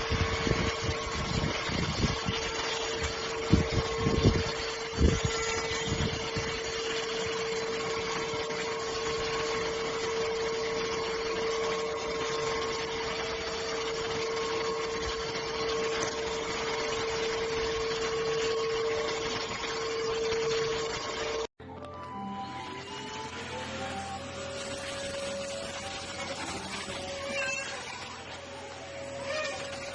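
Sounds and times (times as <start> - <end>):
vacuum cleaner running: 0.0 - 29.9.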